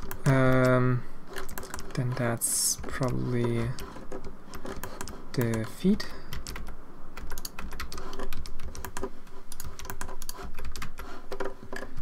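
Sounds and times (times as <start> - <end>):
keyboard keys clicking: 0.0 - 2.1, 2.8 - 12.0.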